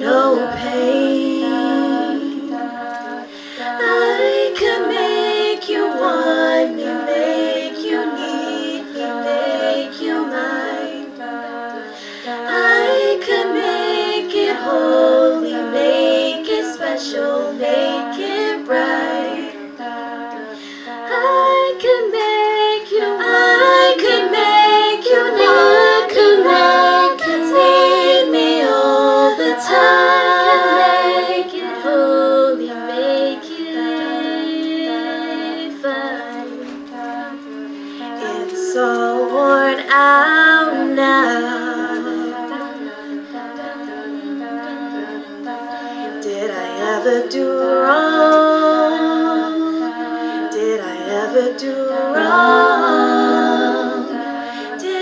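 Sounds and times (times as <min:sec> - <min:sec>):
female a cappella group singing: 0:00.0 - 0:55.0.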